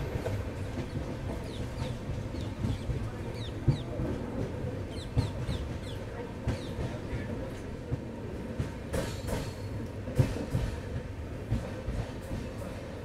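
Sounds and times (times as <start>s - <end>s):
train clanks and knocks: 0.0s - 13.0s
train wheels rumbling on rail: 0.0s - 13.0s.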